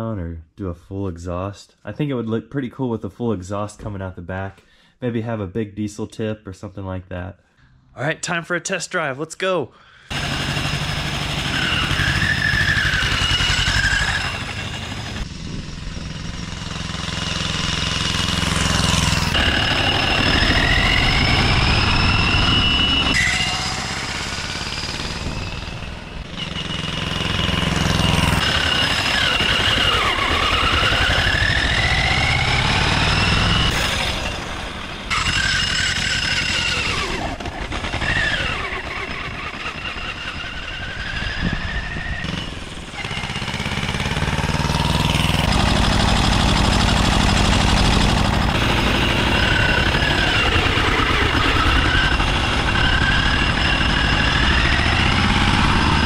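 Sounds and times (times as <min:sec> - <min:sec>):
motorcycle diesel engine running: 0:10.1 - 0:56.0
turbo whine: 0:10.1 - 0:56.0.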